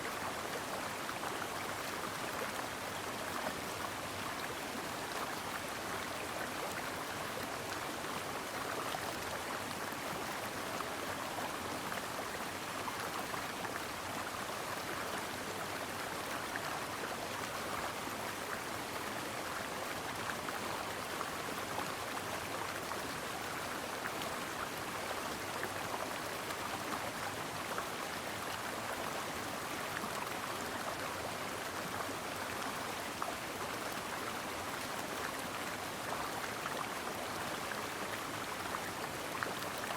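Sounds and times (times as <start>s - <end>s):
brook flowing: 0.0s - 39.9s.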